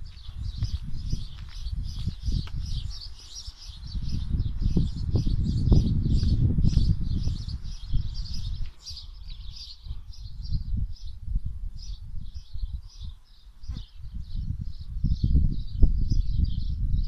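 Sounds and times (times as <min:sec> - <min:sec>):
birds chirping: 0:00.0 - 0:11.2, 0:11.8 - 0:16.8.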